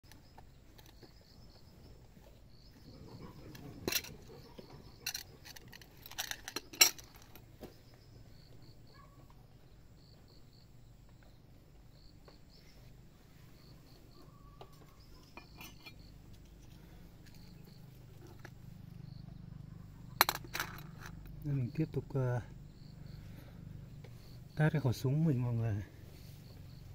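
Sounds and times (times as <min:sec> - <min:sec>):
insects chirping: 0:00.0 - 0:26.9.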